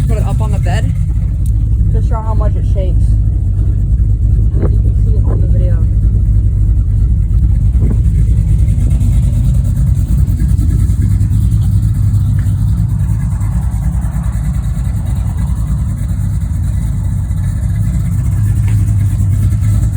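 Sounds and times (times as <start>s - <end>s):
loud truck engine idling: 0.0s - 19.9s.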